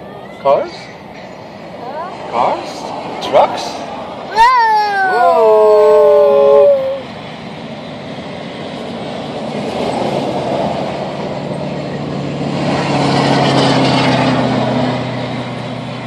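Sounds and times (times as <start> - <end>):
truck passing: 0.0 - 16.0.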